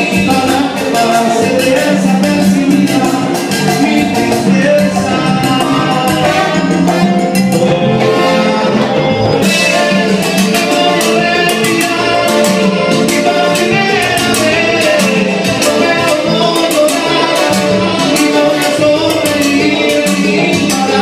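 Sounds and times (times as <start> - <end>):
lead singer singing: 0.0 - 7.0, 7.6 - 21.0
congas and timbales beat: 0.0 - 21.0
latin dance band playing: 0.0 - 21.0
trombone section: 0.0 - 21.0.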